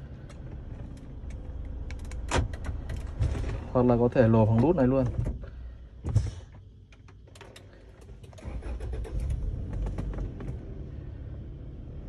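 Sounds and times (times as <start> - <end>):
car engine starting and idling: 0.0 - 5.0, 6.6 - 12.0.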